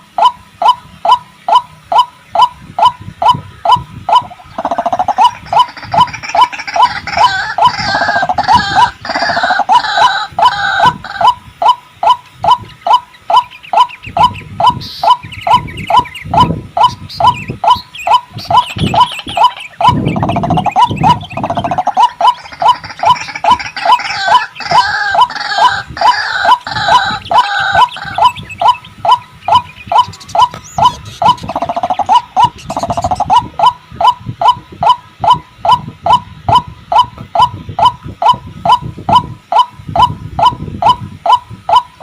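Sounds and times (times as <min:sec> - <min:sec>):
waterhen calling: 0:00.0 - 0:42.0.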